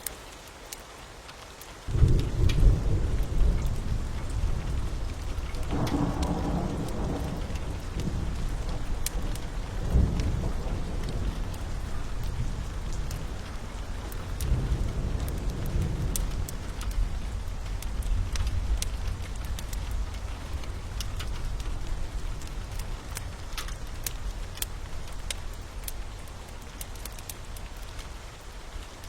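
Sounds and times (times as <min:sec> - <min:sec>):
steady rain: 0:00.0 - 0:29.0
sharp crackles: 0:01.6 - 0:29.0
thunder rumbling: 0:01.9 - 0:28.3.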